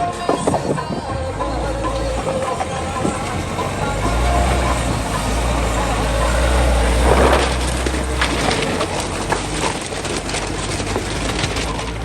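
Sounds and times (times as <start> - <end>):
engine low rumble: 0.0 - 12.0
knocks and rattles: 0.0 - 12.0
rushing noise: 0.0 - 12.0.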